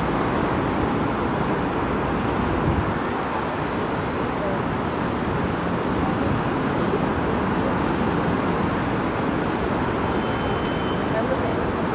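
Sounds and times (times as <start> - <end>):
distant road traffic hum: 0.0 - 11.9.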